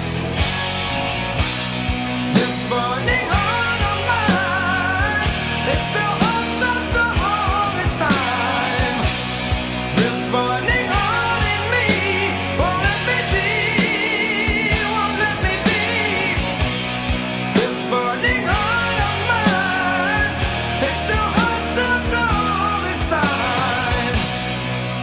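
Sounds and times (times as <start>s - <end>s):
bass and drums: 0.0s - 25.0s.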